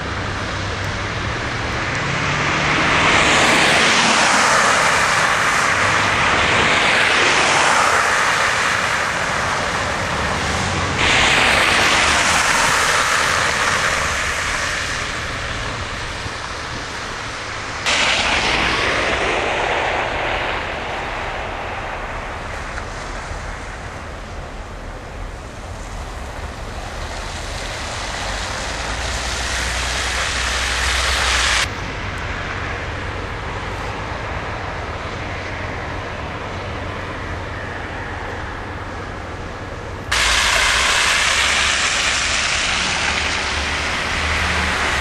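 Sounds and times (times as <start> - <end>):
road traffic rushing: 0.0 - 45.0.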